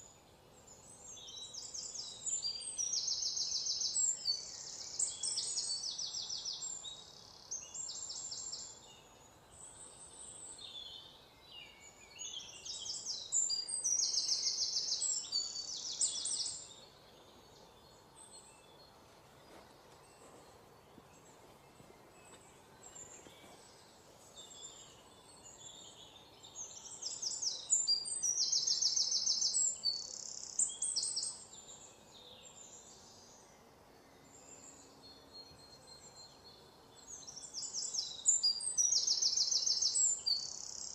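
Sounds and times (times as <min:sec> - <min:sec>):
faint steady hiss: 0:00.0 - 0:40.9
small birds chirping and trilling: 0:00.0 - 0:40.9.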